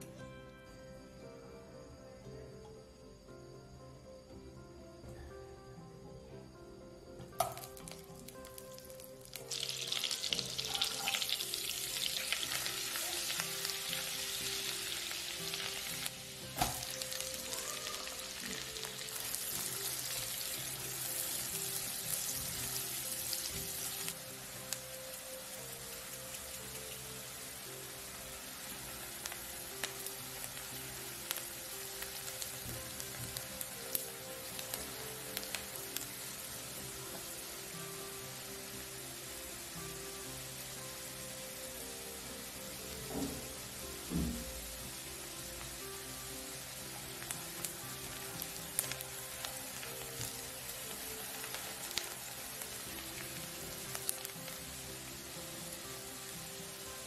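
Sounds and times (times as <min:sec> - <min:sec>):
onion sizzling in a frying pan: 0:07.4 - 0:57.0.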